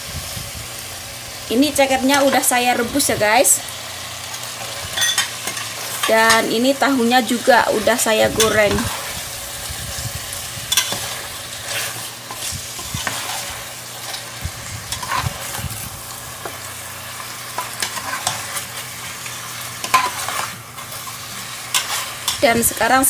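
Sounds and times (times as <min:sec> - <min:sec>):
spice paste sizzling in a pot: 0:00.0 - 0:23.0.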